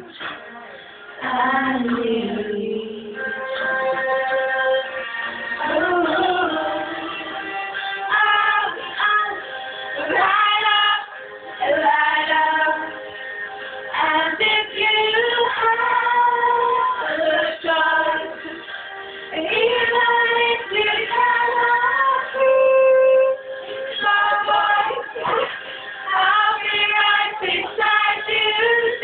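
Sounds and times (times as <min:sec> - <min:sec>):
young female voices singing: 0:00.0 - 0:29.0.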